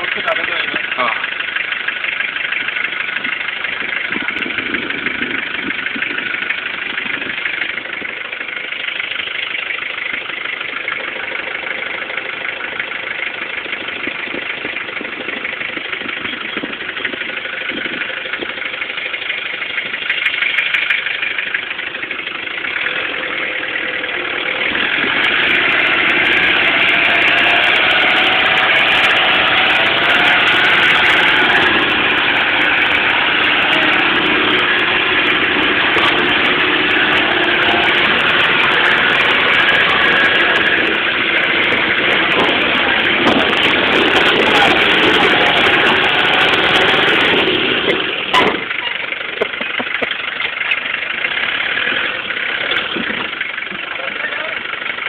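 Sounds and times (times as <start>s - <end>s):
jeep engine with clattering tick: 0.0s - 55.0s.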